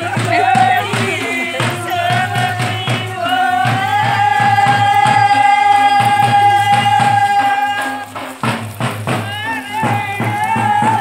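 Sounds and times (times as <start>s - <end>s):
song with steady beat: 0.0s - 11.0s.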